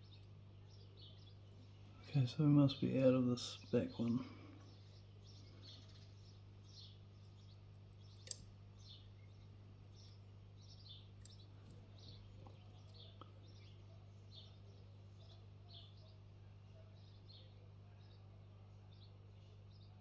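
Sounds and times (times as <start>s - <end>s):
bird chirping: 0.0s - 20.0s
steady low hum: 0.0s - 20.0s.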